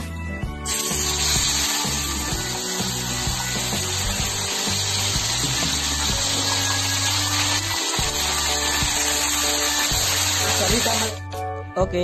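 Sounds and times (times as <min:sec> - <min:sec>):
background music: 0:00.0 - 0:12.0
fish sizzling in hot oil: 0:00.7 - 0:11.2.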